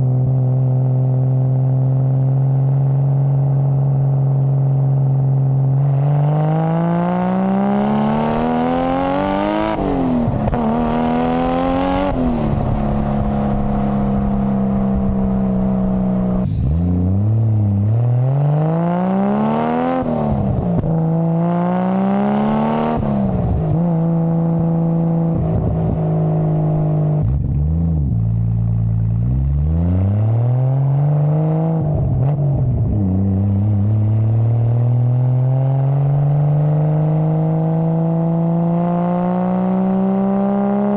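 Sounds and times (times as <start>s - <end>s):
car engine revving through gears: 5.8s - 40.9s.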